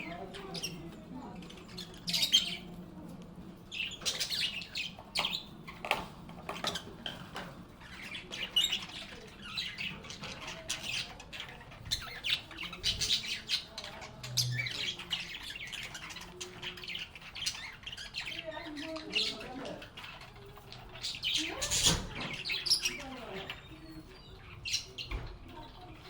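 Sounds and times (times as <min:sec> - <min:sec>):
lovebirds chirping and squawking: 0:00.0 - 0:26.0.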